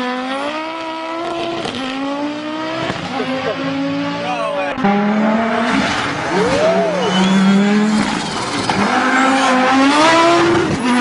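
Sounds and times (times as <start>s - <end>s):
car engine revving under load: 0.0s - 11.0s.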